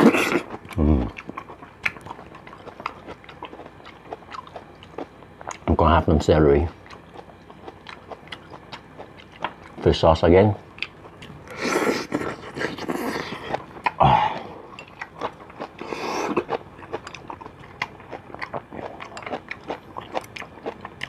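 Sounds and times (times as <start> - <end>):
chewing with smacks: 0.0 - 5.7, 6.6 - 9.9, 10.7 - 21.0.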